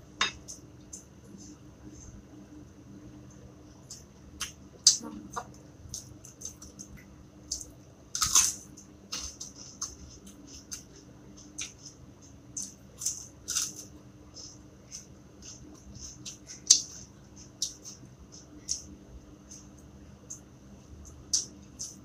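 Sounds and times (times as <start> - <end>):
crunchy chewing: 3.8 - 22.0.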